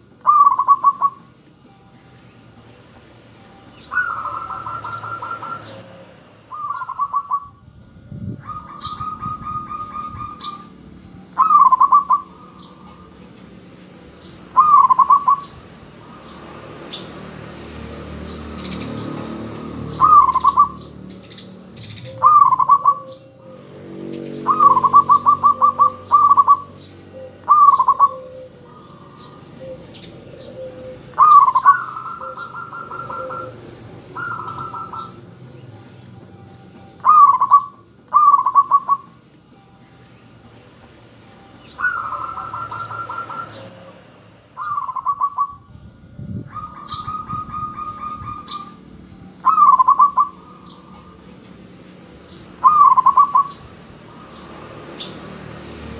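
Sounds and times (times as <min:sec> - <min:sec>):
dove cooing in trills: 0:00.0 - 0:01.4, 0:03.8 - 0:17.0, 0:17.9 - 0:35.8, 0:36.8 - 0:39.3, 0:41.6 - 0:55.9.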